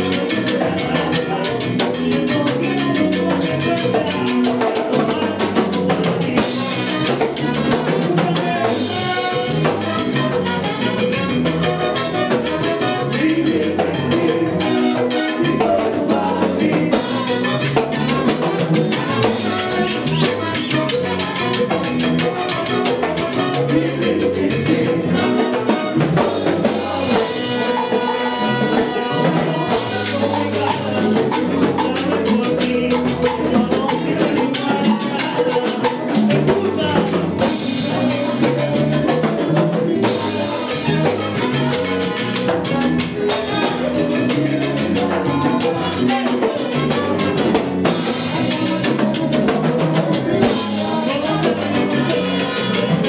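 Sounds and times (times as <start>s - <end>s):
drum kit and percussion: 0.0s - 53.0s
salsa orchestra playing: 0.0s - 53.0s.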